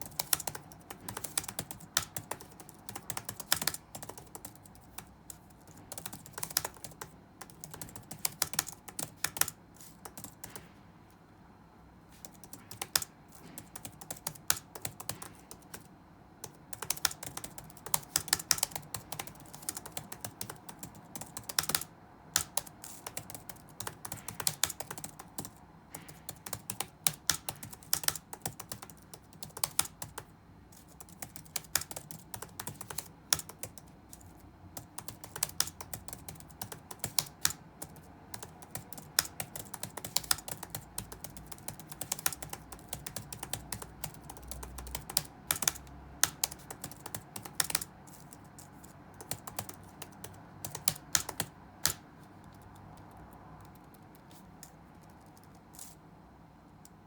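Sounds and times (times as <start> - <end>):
typing on computer keyboard: 0.0 - 10.7, 12.1 - 56.0.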